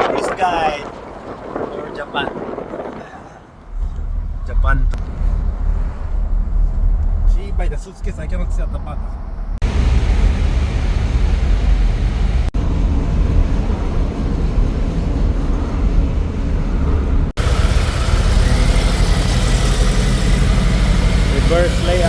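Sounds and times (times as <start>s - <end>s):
road and wind noise: 0.0s - 22.0s
vehicle engine rumbling: 2.8s - 22.0s.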